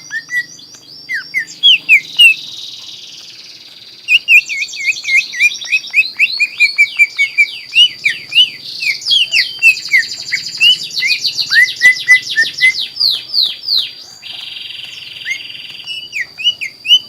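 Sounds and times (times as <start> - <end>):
bird chirping and whistling: 0.0 - 17.0.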